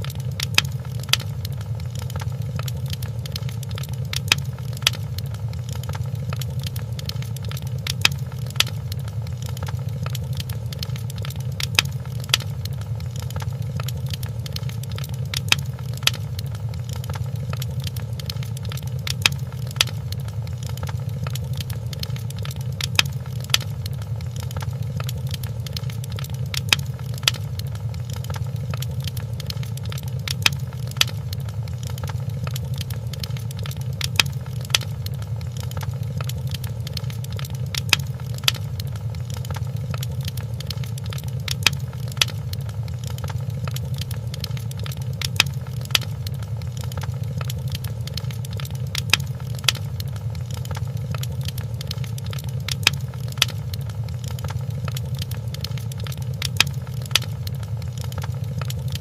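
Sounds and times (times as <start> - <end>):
fireplace crackling: 0.0 - 59.0
low rumble of flames: 0.0 - 59.0.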